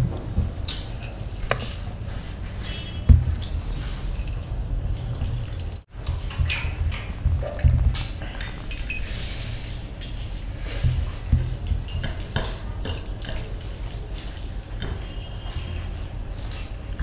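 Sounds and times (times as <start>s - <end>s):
metal rings and chains clinking: 0.7s - 17.0s.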